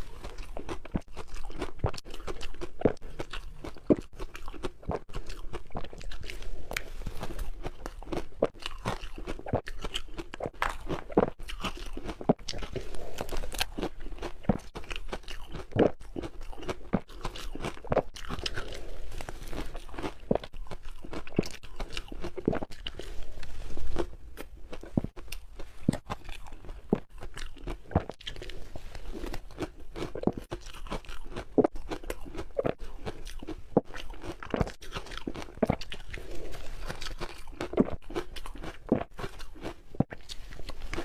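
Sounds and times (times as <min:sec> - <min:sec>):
ice being chewed: 0:00.0 - 0:41.0.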